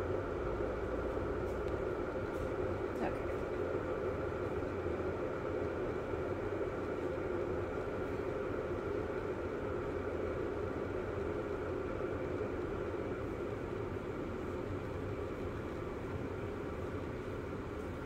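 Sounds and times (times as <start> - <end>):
kettle water bubbling: 0.0 - 18.0.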